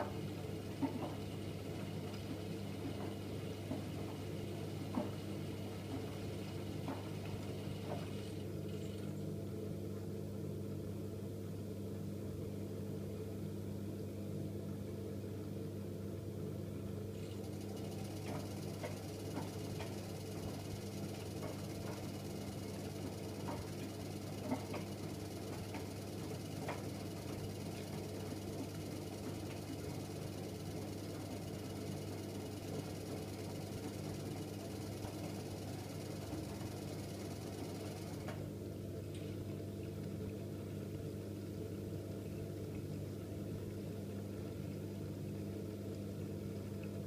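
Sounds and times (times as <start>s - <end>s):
washing machine motor hum: 0.0s - 47.0s.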